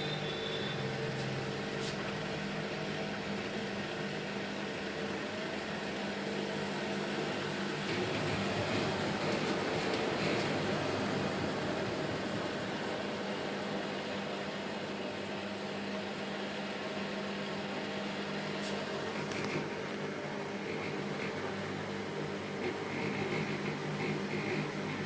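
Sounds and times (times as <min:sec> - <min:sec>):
washing machine hum: 0:00.0 - 0:25.0.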